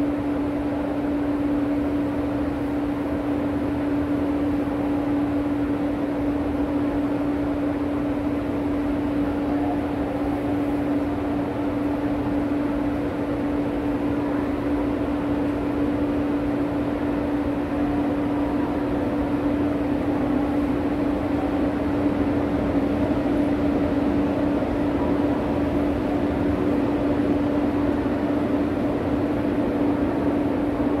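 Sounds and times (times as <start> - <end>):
steady hum: 0.0 - 31.0
train departing on adjacent track: 0.0 - 31.0.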